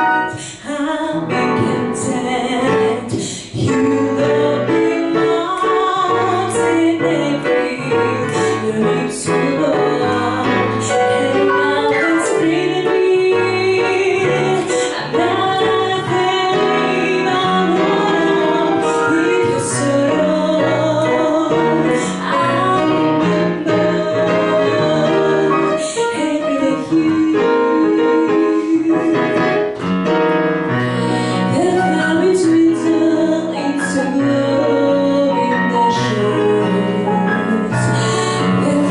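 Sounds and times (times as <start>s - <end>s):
woman singing into a microphone: 0.0s - 29.8s, 30.9s - 38.9s
digital piano: 0.0s - 38.9s.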